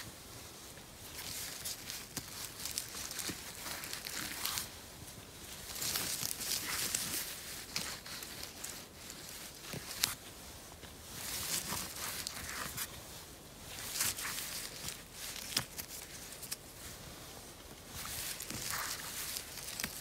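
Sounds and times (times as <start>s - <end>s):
hands rustling through grass: 0.0s - 20.0s.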